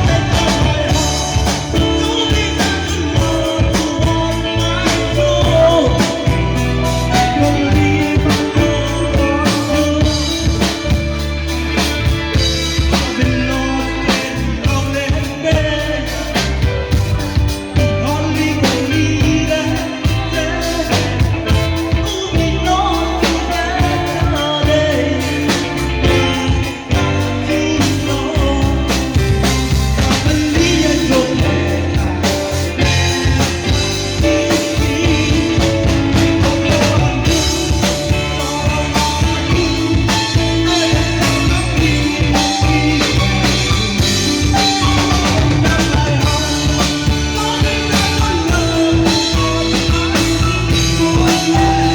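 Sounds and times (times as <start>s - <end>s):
band with drums and guitar: 0.0s - 51.9s
person singing: 0.0s - 51.9s.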